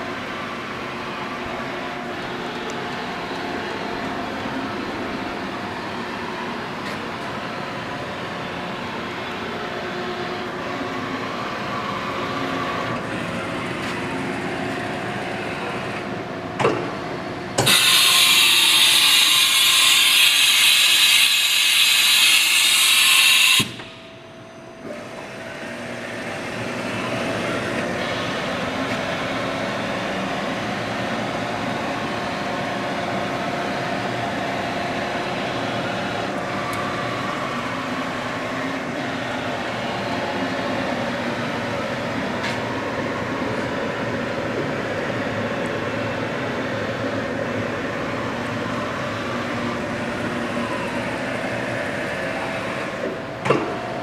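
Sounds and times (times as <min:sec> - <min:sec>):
milling machine humming: 0:00.0 - 0:54.0.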